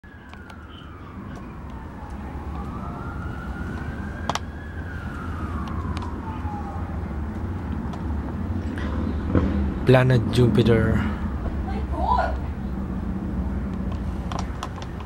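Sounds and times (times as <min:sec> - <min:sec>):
distant police siren wailing: 0:00.0 - 0:15.0.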